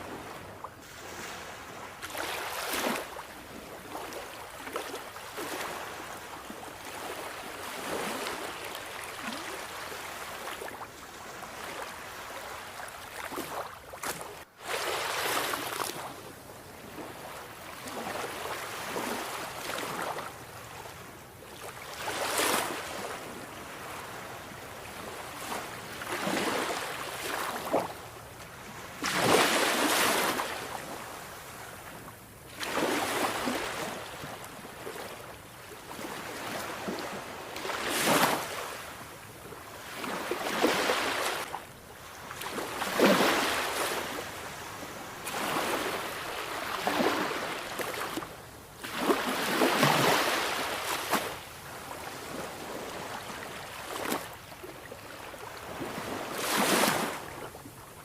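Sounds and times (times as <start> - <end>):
sea waves breaking ashore: 0.0 - 16.2, 21.6 - 57.5.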